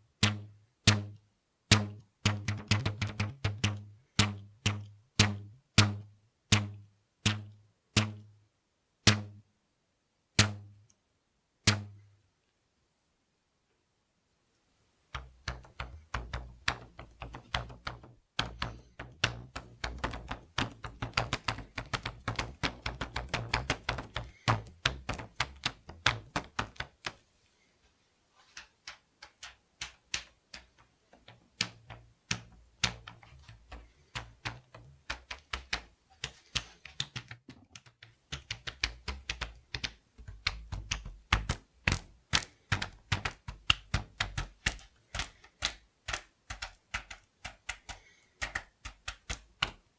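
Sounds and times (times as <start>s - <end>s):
rubber bands snapping: 0.0s - 8.3s, 9.0s - 9.4s, 10.4s - 11.0s, 11.6s - 12.1s, 15.1s - 27.2s, 28.5s - 49.9s.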